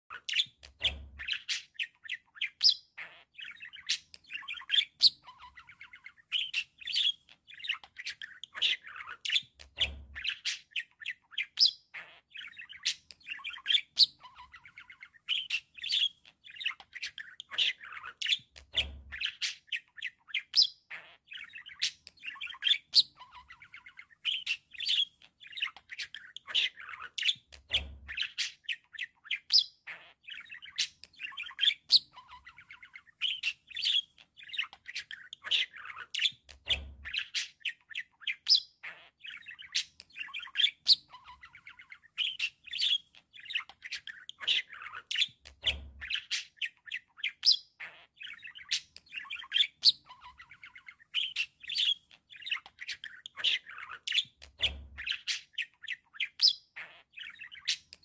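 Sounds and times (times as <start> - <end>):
budgerigars chirping and warbling: 0.1 - 58.0.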